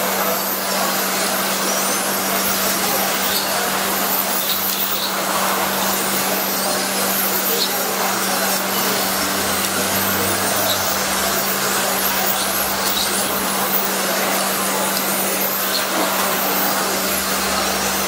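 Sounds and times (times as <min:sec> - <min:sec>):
rc cars whining past: 0:00.1 - 0:18.0.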